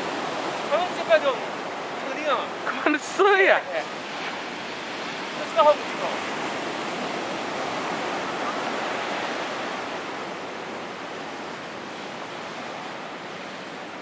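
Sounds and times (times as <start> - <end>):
ocean surf washing on beach: 0.0 - 14.0.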